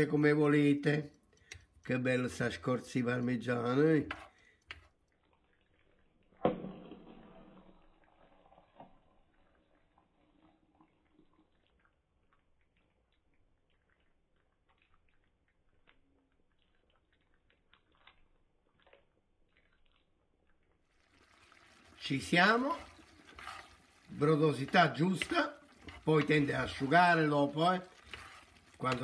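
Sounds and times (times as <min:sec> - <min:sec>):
metal spoon stirring soup: 0:01.2 - 0:06.4, 0:08.1 - 0:29.0.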